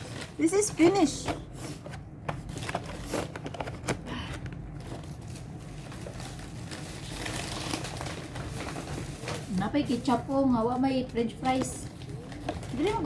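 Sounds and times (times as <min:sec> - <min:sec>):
food packaging being handled: 0:00.0 - 0:13.0.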